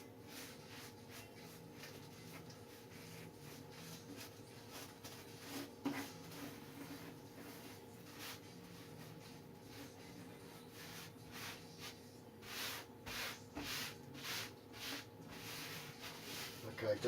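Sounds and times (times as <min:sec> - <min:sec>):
soft rubbing of tissue paper: 0:00.2 - 0:17.0.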